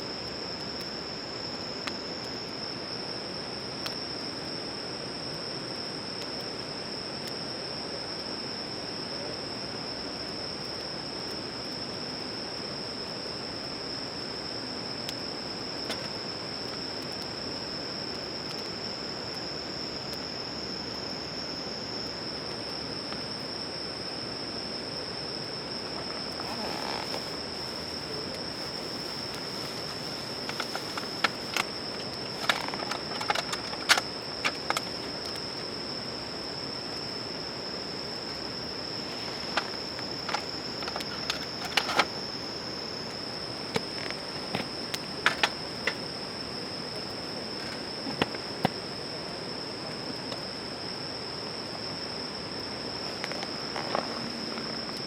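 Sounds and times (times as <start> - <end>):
insects chirring: 0.0 - 55.0
campfire crackling: 0.1 - 55.0.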